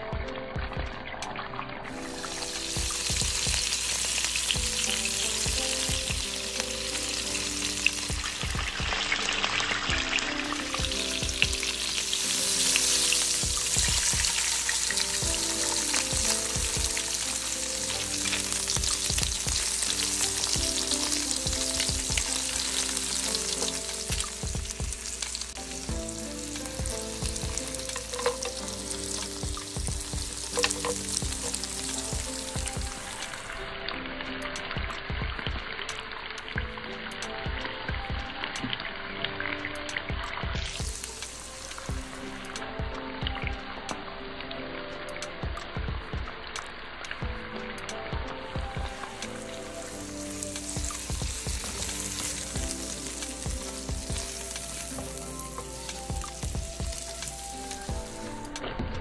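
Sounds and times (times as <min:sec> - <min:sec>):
food sizzling in hot oil: 0:00.6 - 0:58.6.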